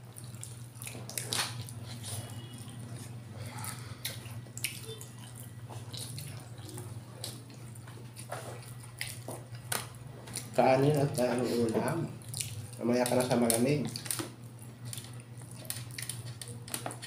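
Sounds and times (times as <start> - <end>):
people chewing food: 0.0 - 17.0.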